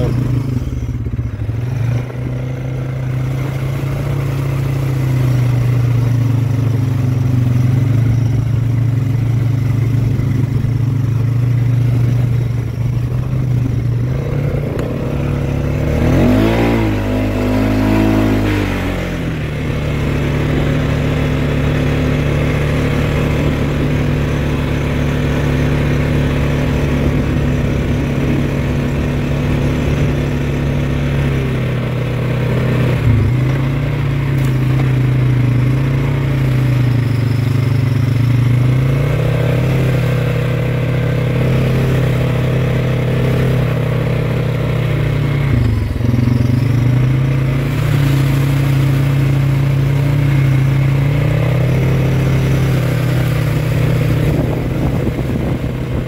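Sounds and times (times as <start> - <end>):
atv engine running and revving: 0.0 - 56.0.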